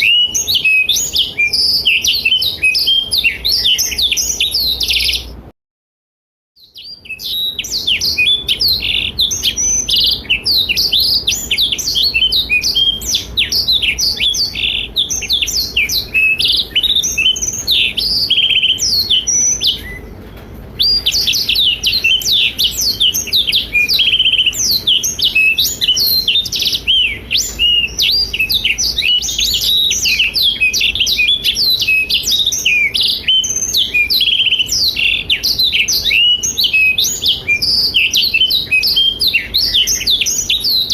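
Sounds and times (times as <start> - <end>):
bird singing trills and warbles: 0.0 - 5.5, 6.6 - 40.9.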